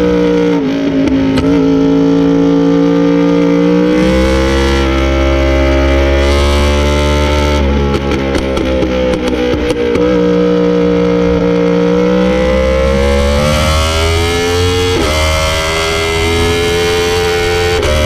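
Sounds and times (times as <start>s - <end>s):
motorcycle engine revving hard: 0.0s - 18.0s.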